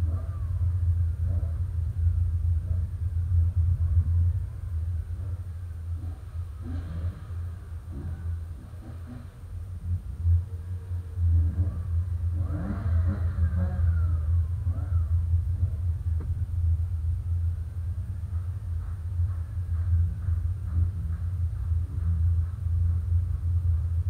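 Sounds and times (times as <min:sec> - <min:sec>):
car engine low drone: 0:00.0 - 0:24.0.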